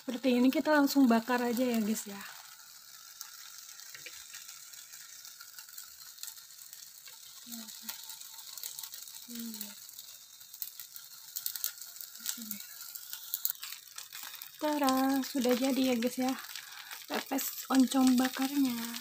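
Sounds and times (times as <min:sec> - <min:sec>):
gas stove flame hissing: 0:00.0 - 0:19.0
leaves sizzling and crackling: 0:00.0 - 0:19.0.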